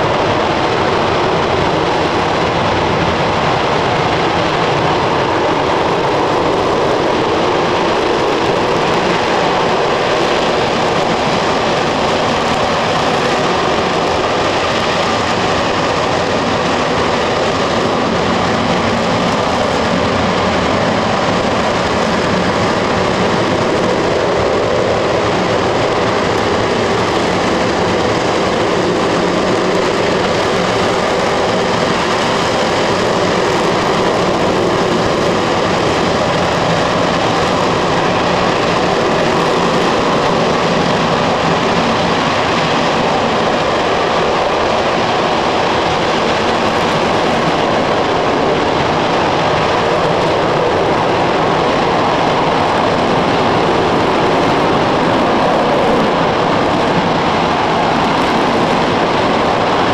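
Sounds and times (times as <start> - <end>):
rocket engine roaring: 0.0 - 59.9.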